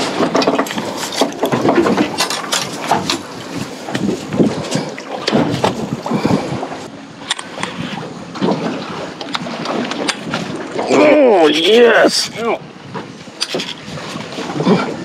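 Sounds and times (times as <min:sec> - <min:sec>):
water against boat: 0:00.0 - 0:15.0
wind on microphone: 0:00.0 - 0:15.0.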